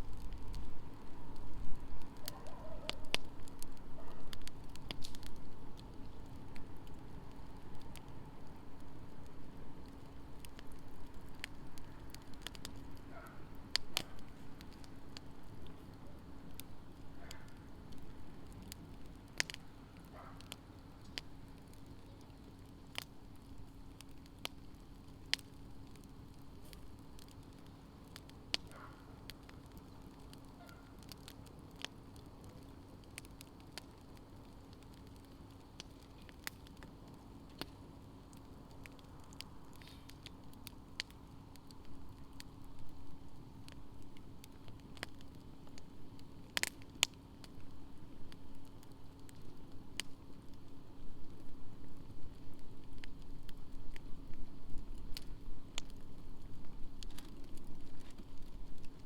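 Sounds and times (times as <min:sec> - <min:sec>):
faint steady hum: 0:00.0 - 0:59.0
wood fire crackling and popping: 0:00.0 - 0:59.0.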